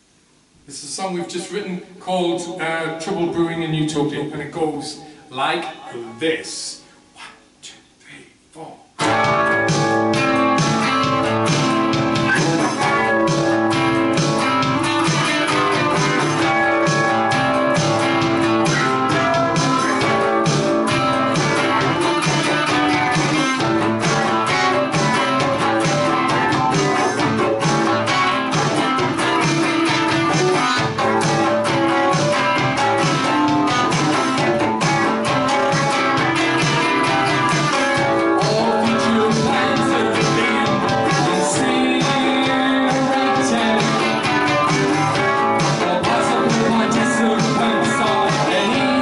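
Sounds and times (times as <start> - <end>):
electric guitars playing rock: 9.0 - 49.0
strummed guitar chords: 9.0 - 49.0.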